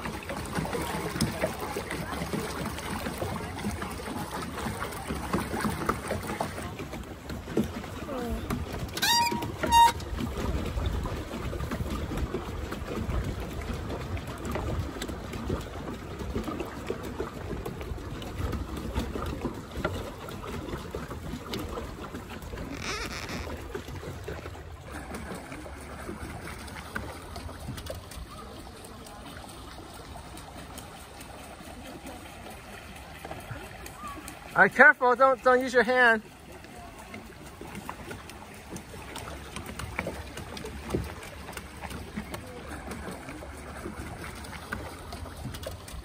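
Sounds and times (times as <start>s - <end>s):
paddle wheel churning water: 0.0s - 46.0s.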